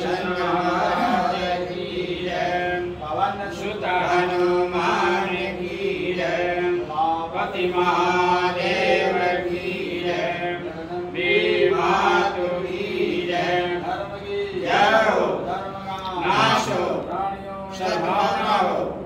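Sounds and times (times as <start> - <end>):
man chanting prayers: 0.0 - 19.0.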